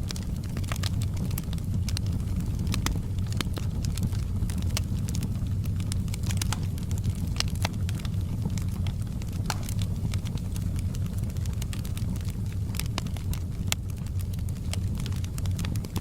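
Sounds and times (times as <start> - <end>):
fire crackling and popping: 0.0 - 16.0
fire low rumble: 0.0 - 16.0.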